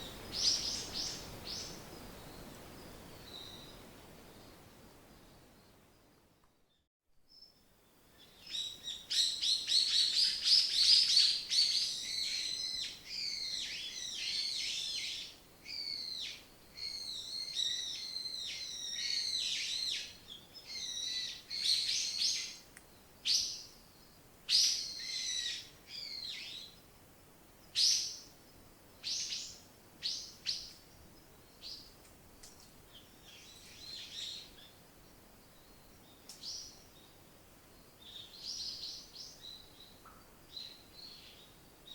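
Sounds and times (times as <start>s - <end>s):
songbirds chirping and trilling: 7.3s - 41.9s.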